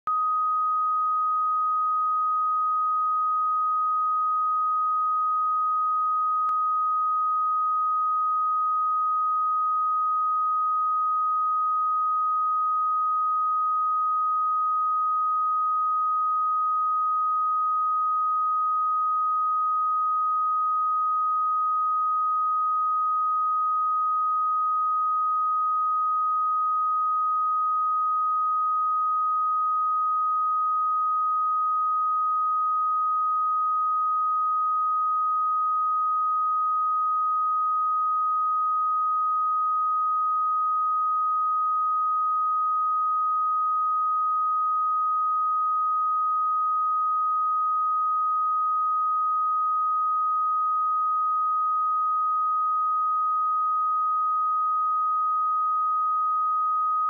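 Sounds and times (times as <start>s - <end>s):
sine-wave test tone: 0.0s - 57.0s.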